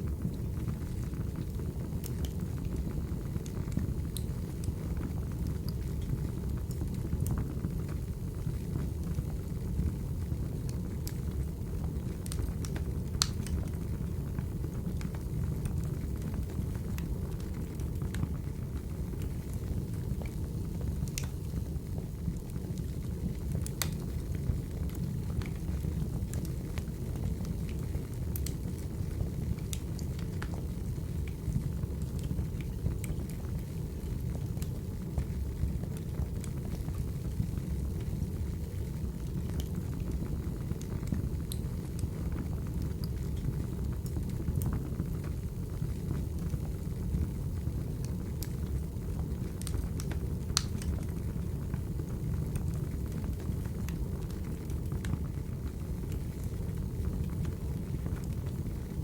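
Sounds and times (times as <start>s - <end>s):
firewood burning with crackles: 0.0s - 59.0s.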